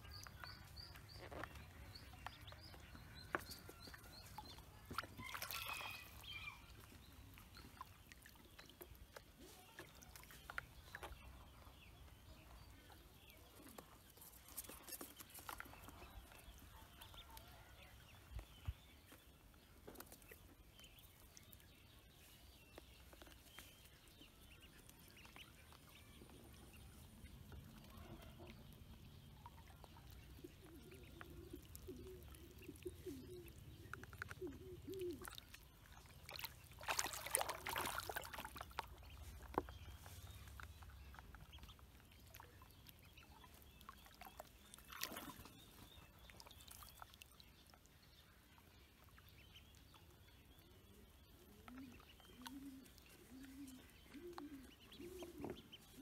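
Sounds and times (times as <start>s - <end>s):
ducklings splashing in water: 0.0s - 56.0s
faint low wavering bird calls: 0.0s - 56.0s.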